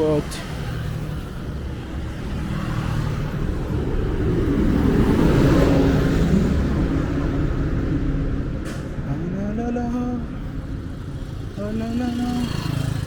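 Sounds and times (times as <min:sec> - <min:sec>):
vehicle engine passing: 0:00.0 - 0:13.0.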